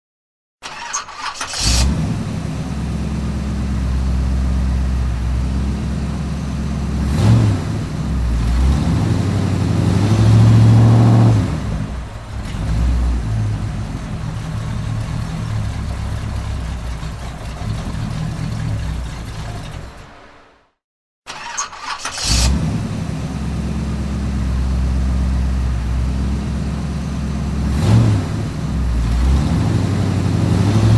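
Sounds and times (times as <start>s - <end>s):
car engine idling and revving: 0.6s - 20.7s, 21.3s - 30.9s.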